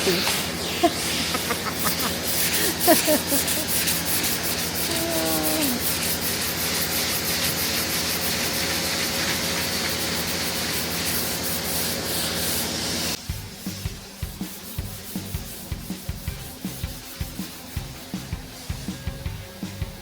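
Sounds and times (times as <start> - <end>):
sandpaper rasping on metal: 0.0 - 19.2.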